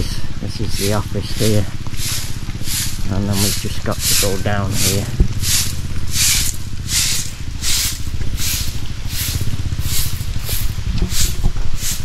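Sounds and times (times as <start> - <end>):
low hum: 0.0 - 12.0
footsteps scuffing on pavement: 0.8 - 12.0.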